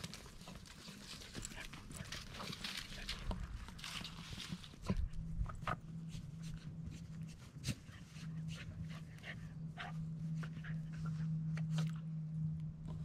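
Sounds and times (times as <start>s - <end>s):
puppy scratching at sand: 0.0s - 12.1s
steady low hum: 0.0s - 13.0s.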